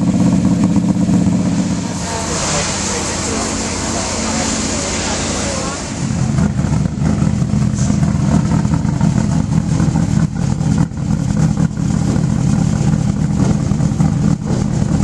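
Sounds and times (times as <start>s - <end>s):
race car engine rumbling: 0.0s - 15.0s.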